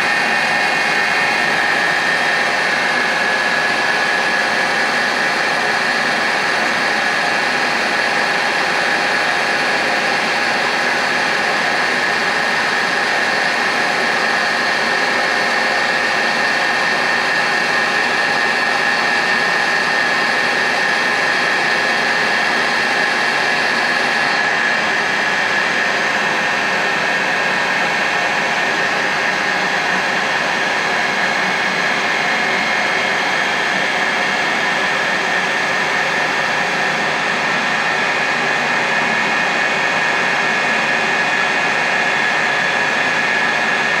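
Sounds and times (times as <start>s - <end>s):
constant machine whine: 0.0s - 44.0s.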